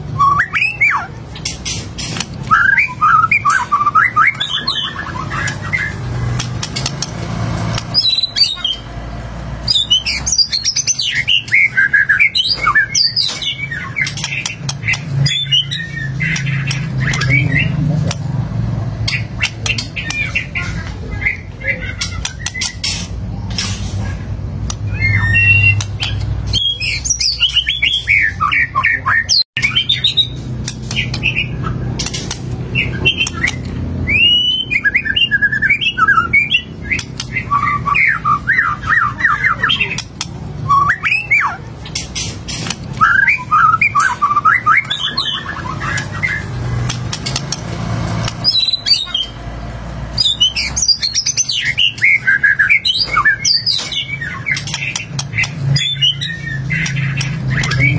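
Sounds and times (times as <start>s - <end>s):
bird singing varied phrases: 0.0s - 23.6s, 24.6s - 57.9s.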